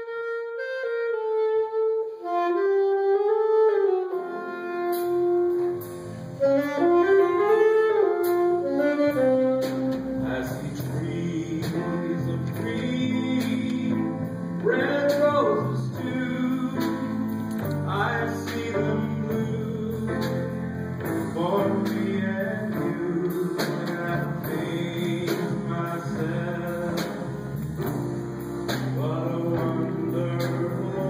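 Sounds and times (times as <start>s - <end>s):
jazz band playing: 0.0s - 31.0s
saxophone melody: 0.0s - 31.0s.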